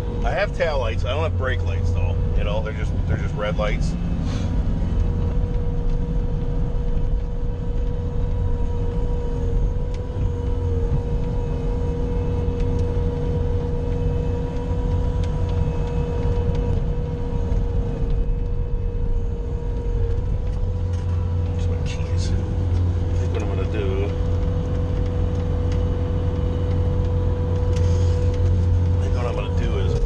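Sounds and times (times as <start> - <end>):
loader engine drone: 0.0 - 30.0
steady engine whine: 0.0 - 30.0.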